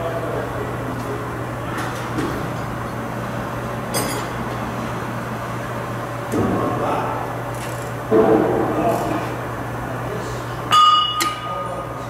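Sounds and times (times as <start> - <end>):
electrical hum: 0.0 - 12.0
fan noise: 0.0 - 12.0.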